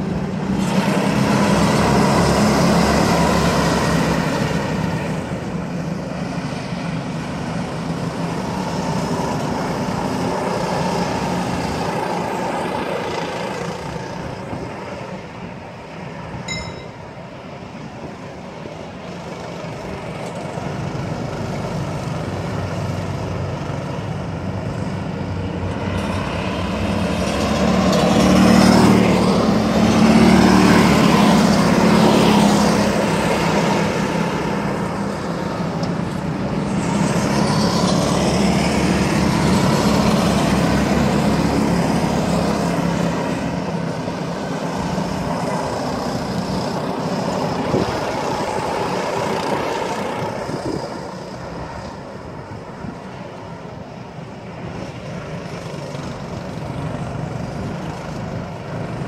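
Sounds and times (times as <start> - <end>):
go-kart engines revving: 0.0 - 15.5, 17.9 - 59.0.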